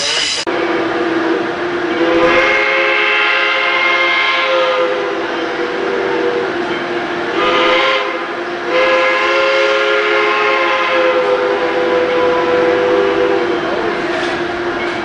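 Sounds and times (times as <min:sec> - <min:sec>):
steam locomotive chime whistle: 0:00.0 - 0:15.0.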